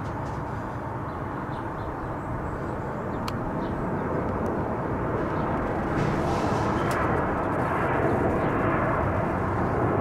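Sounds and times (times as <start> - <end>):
jet airliner rumble: 0.0 - 10.0.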